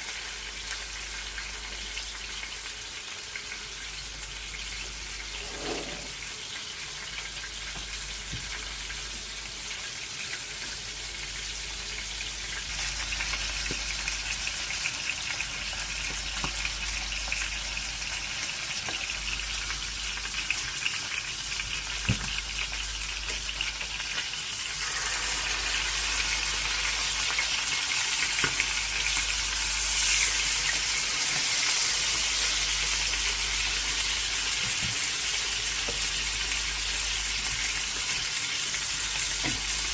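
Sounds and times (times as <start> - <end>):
chicken sizzling in frying pan: 0.0 - 39.9.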